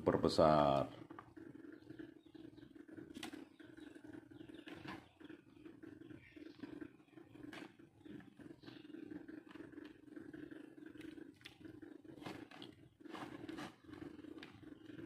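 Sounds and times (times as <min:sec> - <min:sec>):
stove burner rumble: 0:00.0 - 0:15.0.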